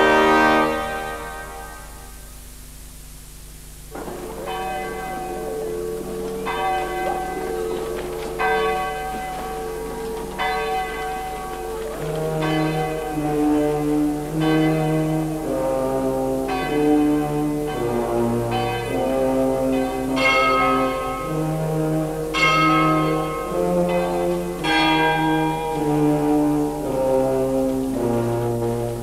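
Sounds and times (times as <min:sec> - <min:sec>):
held chords: 0:00.0 - 0:29.0
struck ringing notes: 0:04.0 - 0:29.0.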